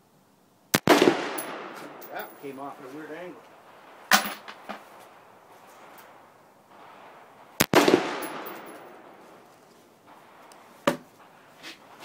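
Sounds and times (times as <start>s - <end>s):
rifle gunshots: 0.7s - 5.4s, 6.2s - 11.4s.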